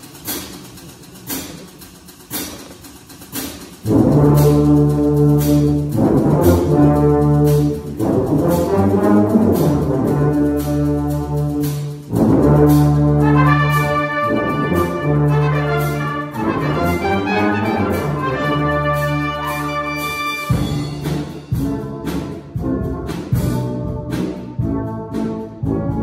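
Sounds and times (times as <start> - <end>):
sharp percussion hits: 0.0 - 25.7
brass band playing: 3.8 - 26.0.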